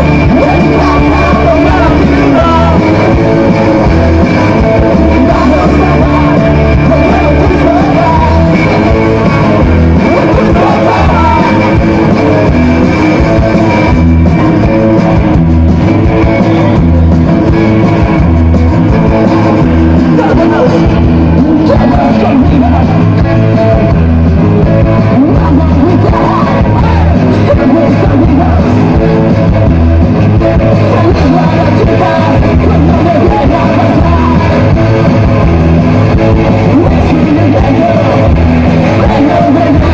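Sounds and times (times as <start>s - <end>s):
singer singing into microphone: 0.0s - 15.0s, 18.8s - 29.4s, 30.3s - 39.9s
punk band playing: 0.0s - 39.9s.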